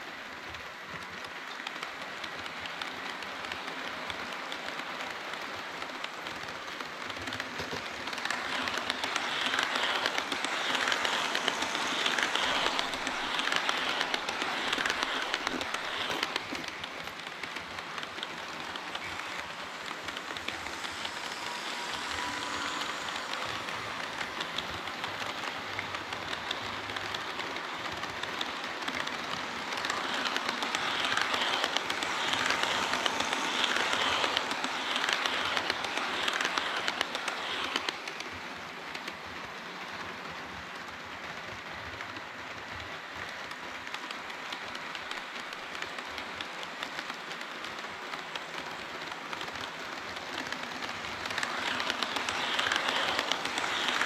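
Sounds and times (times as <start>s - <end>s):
model train wheels rattling on rails: 0.0s - 54.0s.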